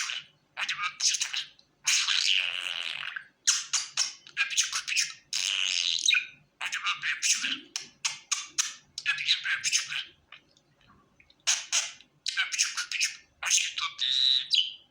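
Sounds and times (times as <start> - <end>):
budgerigar chirping and warbling: 0.0 - 10.5, 11.4 - 14.9.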